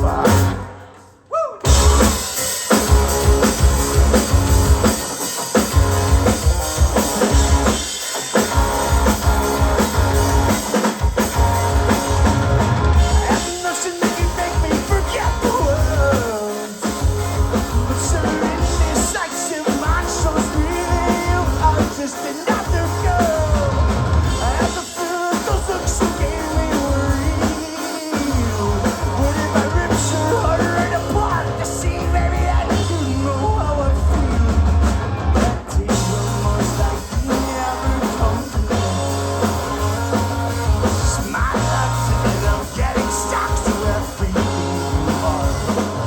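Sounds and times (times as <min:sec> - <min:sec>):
bass guitar: 0:00.0 - 0:00.9, 0:01.6 - 0:46.0
drum kit beat: 0:00.0 - 0:01.0, 0:01.6 - 0:46.0
electric guitar: 0:01.6 - 0:46.0.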